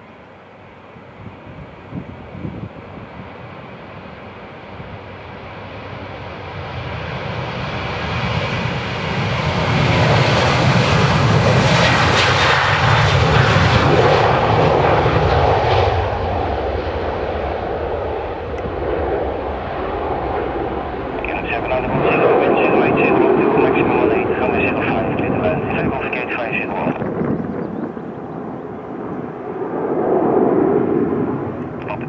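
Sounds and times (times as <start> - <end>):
jet engines at takeoff thrust: 0.0 - 32.0.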